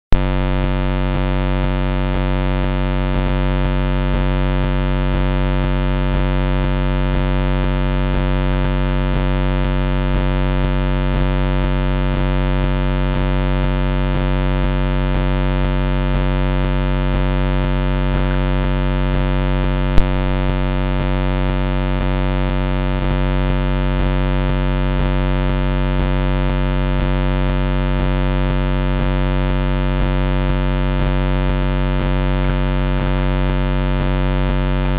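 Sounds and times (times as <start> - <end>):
electrical hum: 0.1 - 34.9.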